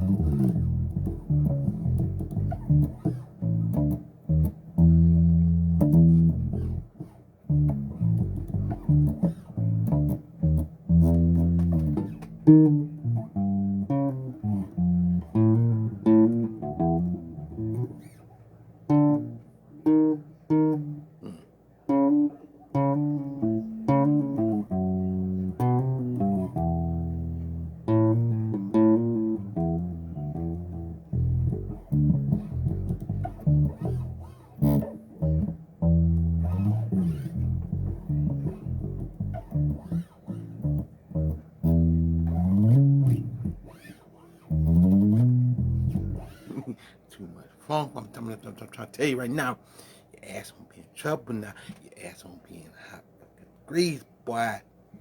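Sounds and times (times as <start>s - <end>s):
electric bass funk line: 0.0s - 18.2s, 18.9s - 21.0s, 21.9s - 46.6s.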